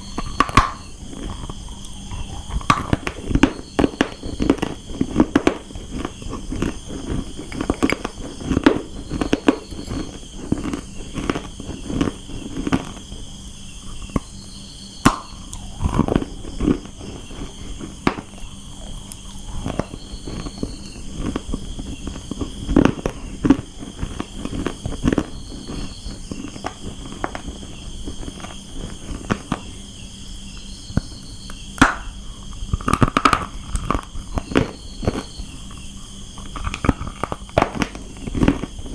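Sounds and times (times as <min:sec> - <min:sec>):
crunching and chewing clay: 0:00.0 - 0:38.9.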